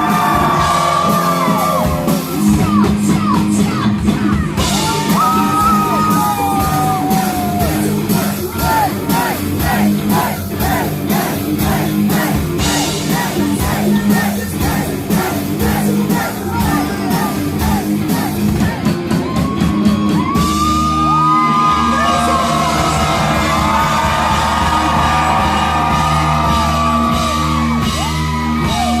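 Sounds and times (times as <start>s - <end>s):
fast drumming: 0.0s - 29.0s
live hardcore punk band playing: 0.0s - 29.0s
yelled vocals: 0.0s - 29.0s.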